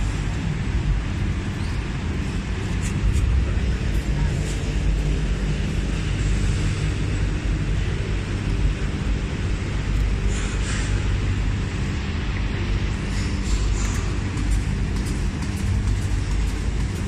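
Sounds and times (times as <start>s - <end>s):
exhibition hall rumble: 0.0s - 17.0s.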